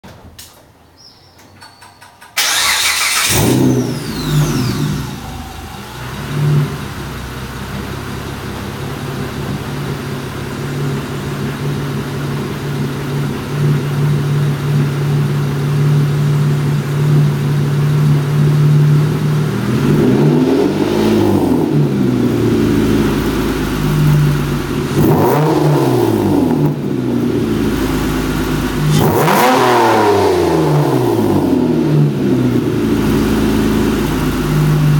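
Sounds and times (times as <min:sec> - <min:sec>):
car engine starting: 0:01.4 - 0:34.9
car engine idling: 0:02.3 - 0:29.4, 0:31.3 - 0:34.9
car engine revving: 0:02.4 - 0:34.9.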